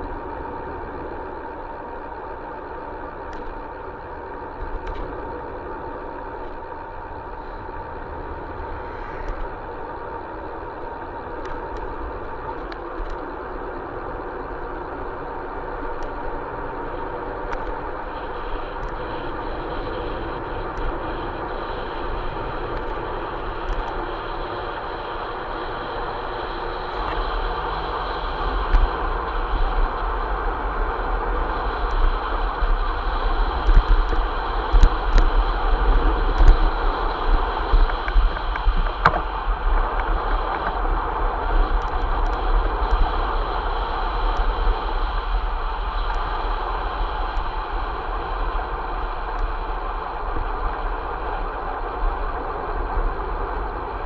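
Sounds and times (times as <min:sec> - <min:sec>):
vehicle driving on road: 0:00.0 - 0:54.0.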